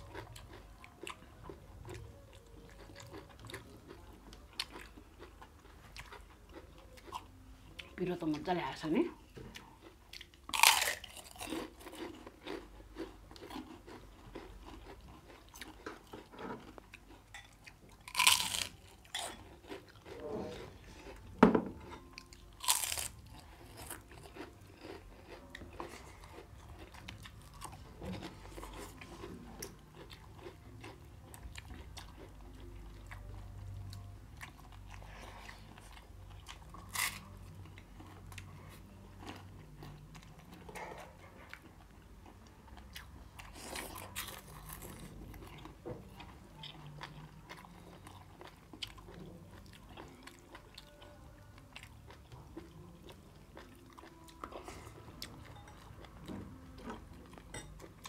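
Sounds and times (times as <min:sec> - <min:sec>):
chewing and crisp bites: 0:00.0 - 0:08.5, 0:09.4 - 0:58.0.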